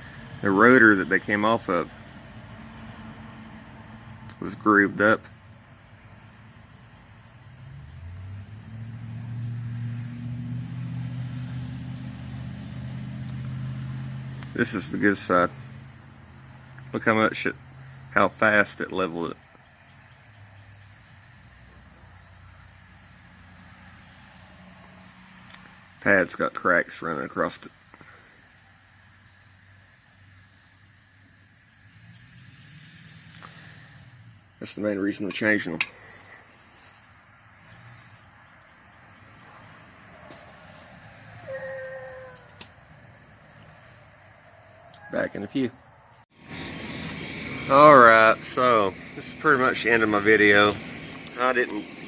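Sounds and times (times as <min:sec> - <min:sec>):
crickets chirping: 0:00.0 - 0:52.0
high-pitched insect drone: 0:00.0 - 0:52.0.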